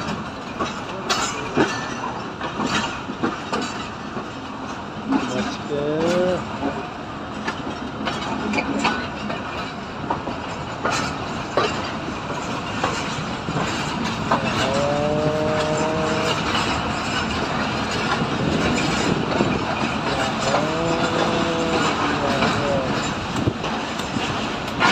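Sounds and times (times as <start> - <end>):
train running rumble: 0.0 - 24.9
train wheels clicking over rail joints: 0.0 - 24.9.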